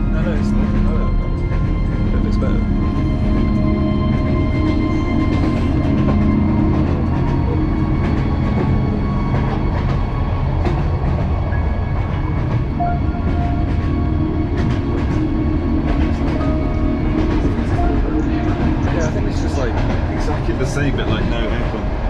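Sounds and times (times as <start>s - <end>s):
faint whining tones: 0.0s - 22.0s
train rumbling on track: 0.0s - 22.0s.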